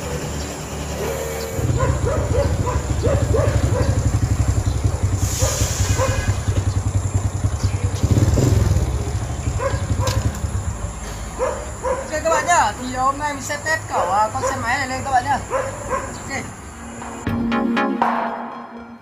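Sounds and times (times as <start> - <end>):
motorbike engine running: 0.0 - 16.2.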